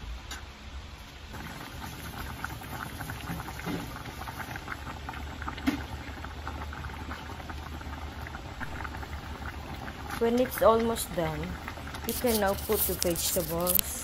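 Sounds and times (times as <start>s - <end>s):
soup boiling and bubbling: 1.0s - 14.0s.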